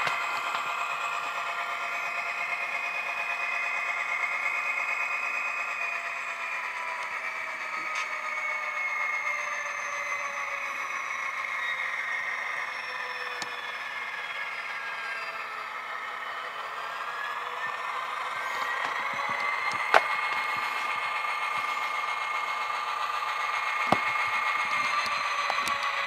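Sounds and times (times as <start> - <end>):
diesel engine sound from small speaker: 0.0 - 26.0.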